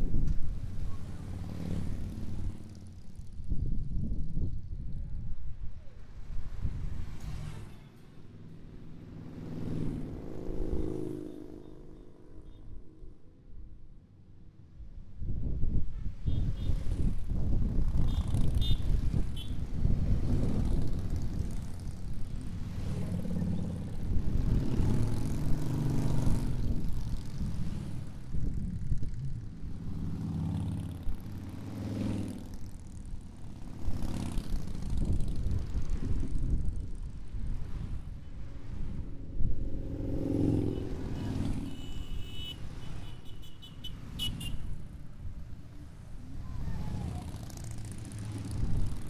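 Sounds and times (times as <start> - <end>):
motorcycles riding past: 0.1 - 4.8, 6.2 - 14.4, 16.1 - 49.0.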